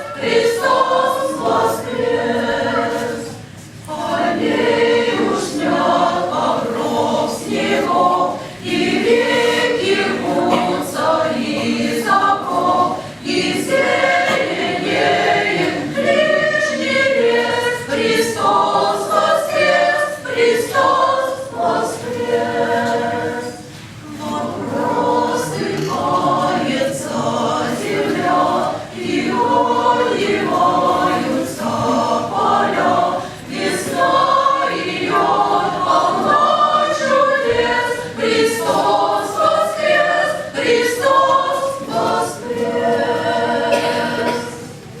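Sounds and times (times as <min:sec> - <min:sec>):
church choir singing: 0:00.0 - 0:45.0.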